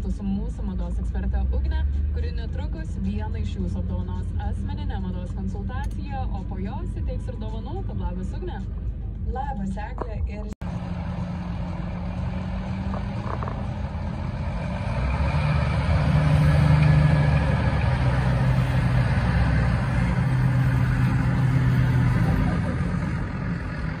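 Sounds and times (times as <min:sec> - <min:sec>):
diesel tractor engines under load: 0:00.0 - 0:24.0.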